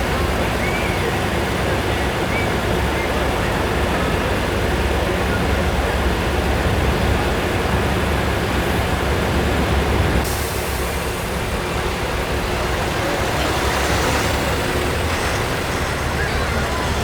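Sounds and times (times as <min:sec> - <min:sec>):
semi truck diesel engines rumbling: 0:00.0 - 0:17.0.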